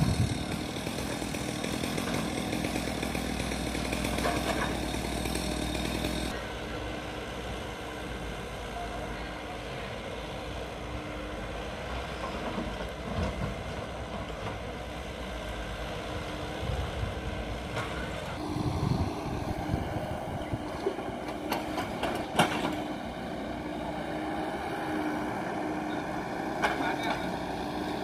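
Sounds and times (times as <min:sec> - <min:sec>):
diesel engines running: 0:00.0 - 0:28.0.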